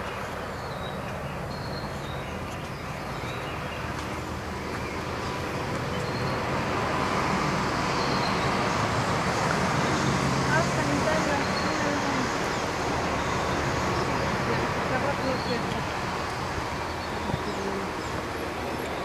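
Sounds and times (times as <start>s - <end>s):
road traffic engine hum: 0.0s - 19.0s.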